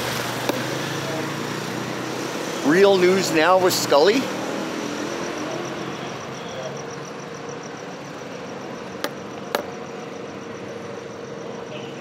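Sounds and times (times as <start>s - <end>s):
car traffic and engines: 0.0s - 12.0s.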